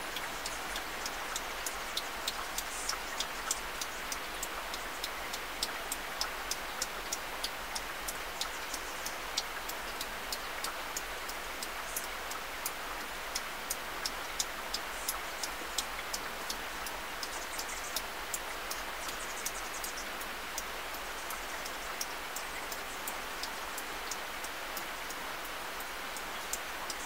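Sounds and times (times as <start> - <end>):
rain hissing on a car: 0.0 - 27.0.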